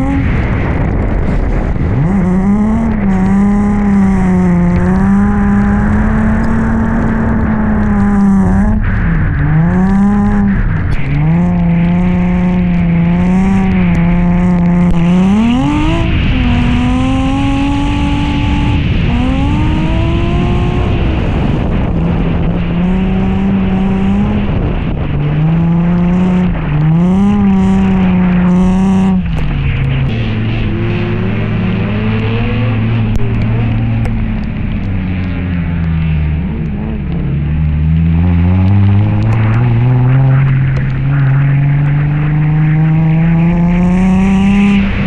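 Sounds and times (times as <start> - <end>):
car engine revving: 0.0 - 45.0
tyre and road noise: 0.0 - 45.0.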